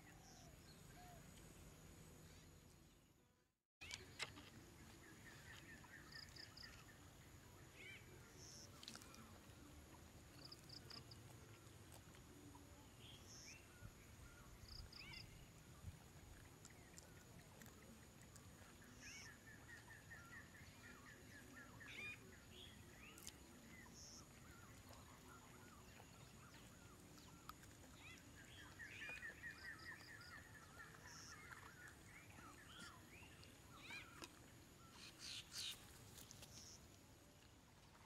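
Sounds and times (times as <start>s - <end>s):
faint birdsong chirping: 0.0s - 38.0s.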